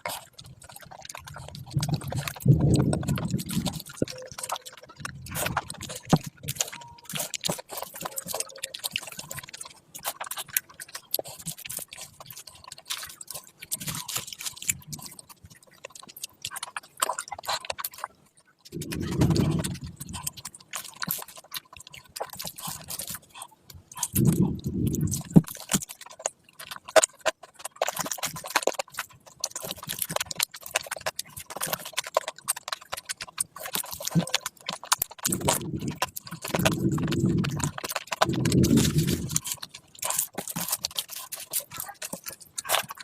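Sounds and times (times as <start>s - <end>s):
wet chewing sounds: 0.0s - 43.0s.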